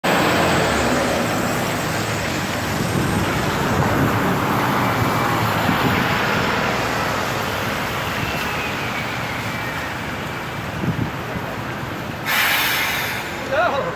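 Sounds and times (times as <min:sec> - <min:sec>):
dense city traffic: 0:00.0 - 0:13.9.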